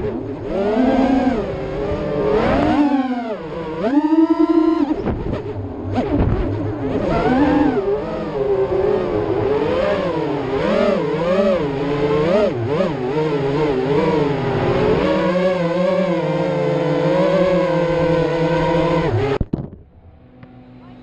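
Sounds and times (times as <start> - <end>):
quadcopter motors whining: 0.0 - 19.4.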